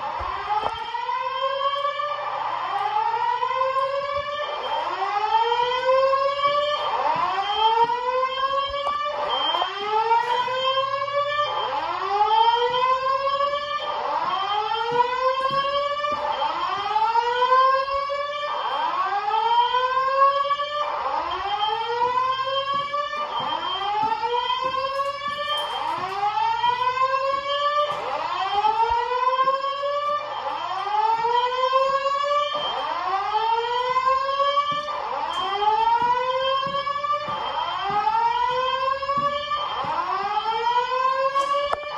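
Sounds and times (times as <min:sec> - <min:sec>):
fire alarm whoop tone: 0:00.0 - 0:41.9
second overlapping alarm sweep: 0:00.0 - 0:41.9.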